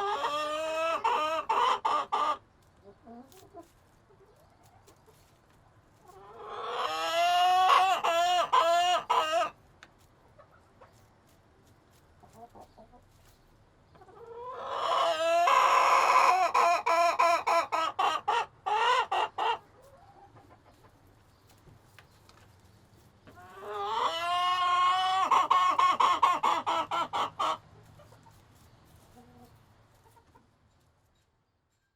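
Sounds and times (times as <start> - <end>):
chickens calling: 0.0 - 9.6, 12.2 - 30.9.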